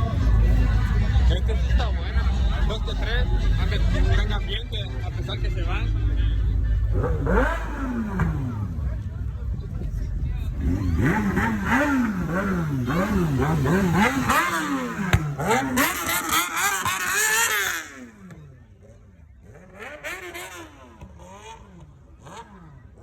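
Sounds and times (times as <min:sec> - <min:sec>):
vehicle engine revving: 0:00.0 - 0:23.0.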